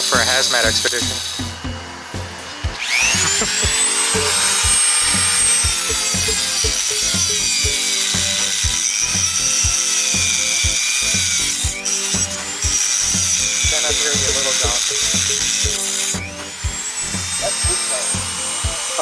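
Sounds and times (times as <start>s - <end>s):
background music with beat: 0.0s - 19.0s
power tool whining on metal: 0.0s - 19.0s.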